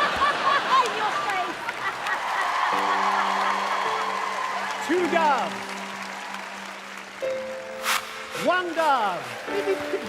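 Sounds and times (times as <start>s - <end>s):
audience cheering and applauding: 0.0s - 10.0s.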